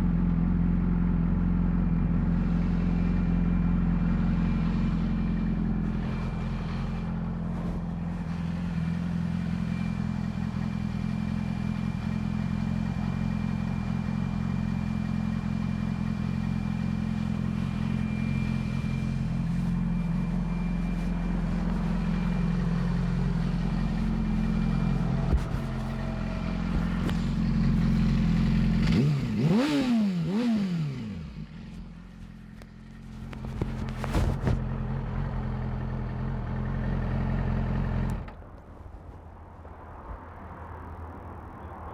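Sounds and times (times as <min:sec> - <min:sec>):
motorcycle engine running: 0:00.0 - 0:38.4.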